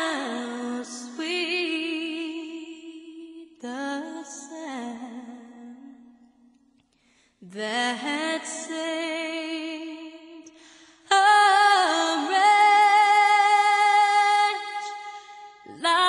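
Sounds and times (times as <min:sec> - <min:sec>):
woman singing unaccompanied: 0:00.0 - 0:06.0, 0:07.4 - 0:10.5, 0:11.1 - 0:16.0.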